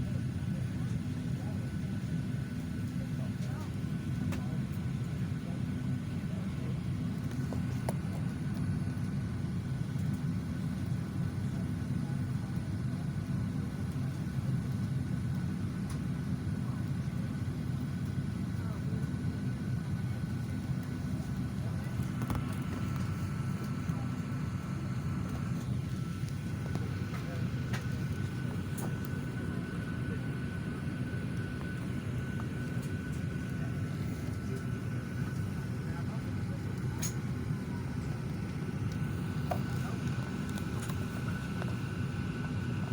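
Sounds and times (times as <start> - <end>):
airliner cabin noise: 0.0 - 42.9
ventilation rumble: 0.0 - 42.9.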